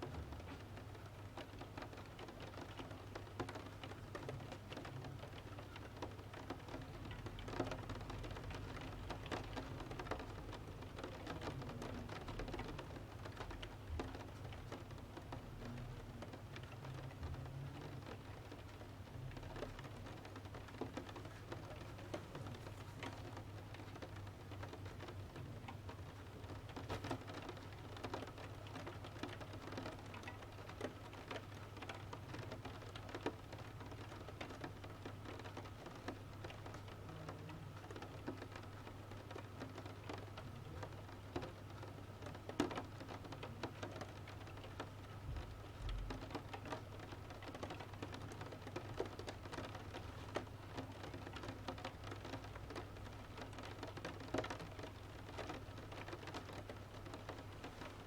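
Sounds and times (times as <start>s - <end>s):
rain pattering on window: 0.0s - 58.0s.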